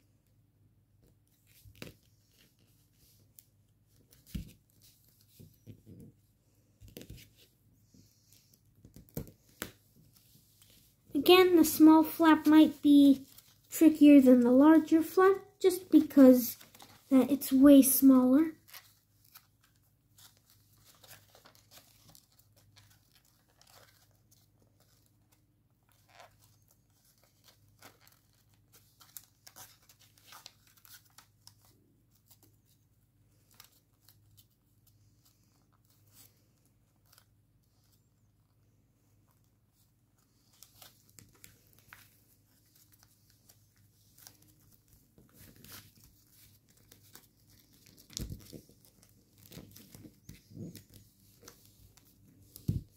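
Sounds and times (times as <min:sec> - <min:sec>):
paper crinkling while folded: 0:01.0 - 0:52.9.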